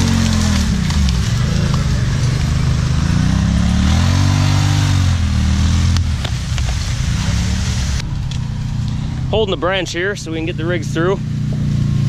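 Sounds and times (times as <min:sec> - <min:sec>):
sharp cracks: 0:00.0 - 0:10.4
utility vehicle engine revving: 0:00.0 - 0:12.0.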